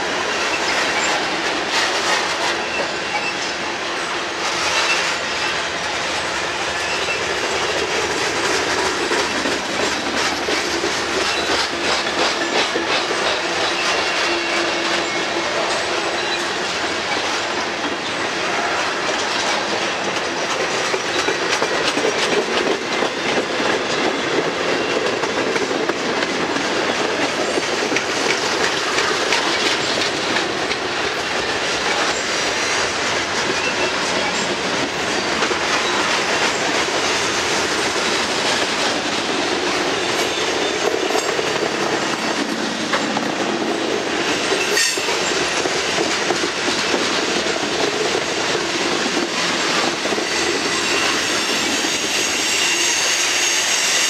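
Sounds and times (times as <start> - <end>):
freight train rumble: 0.0 - 54.0
wheels clacking over rail joints: 0.0 - 54.0.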